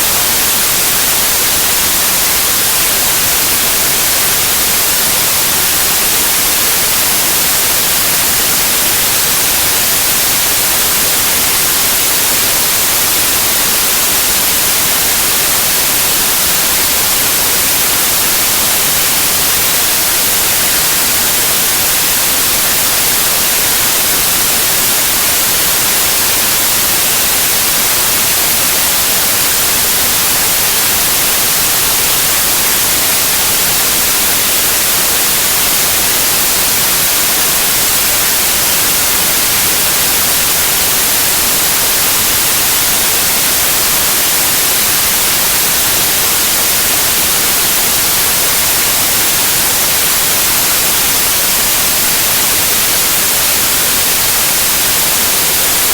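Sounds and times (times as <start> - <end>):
loud white noise hiss: 0.0 - 55.9.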